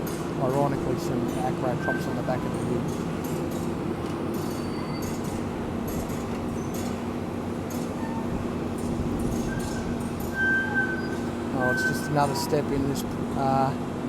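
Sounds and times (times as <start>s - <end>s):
diesel engine droning: 0.3s - 13.8s.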